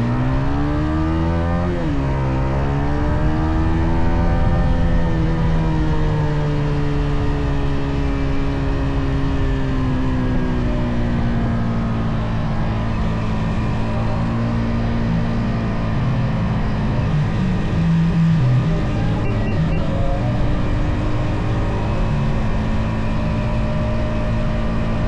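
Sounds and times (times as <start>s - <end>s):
motorcycle engine and exhaust: 0.0s - 25.0s.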